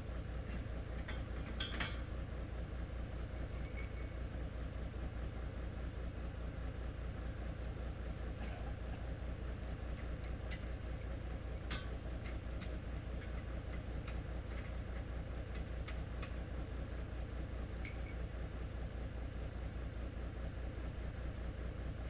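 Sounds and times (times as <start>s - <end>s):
truck engine idling: 0.0s - 18.3s.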